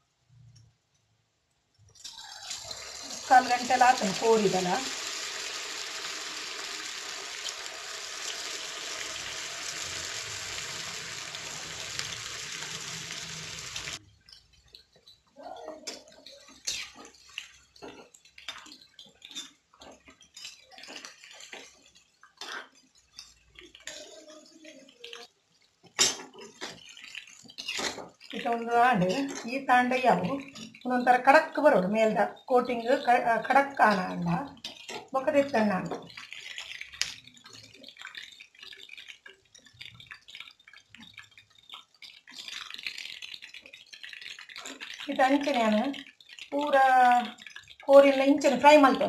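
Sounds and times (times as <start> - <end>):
chicken sizzling in hot oil: 2.0 - 49.0.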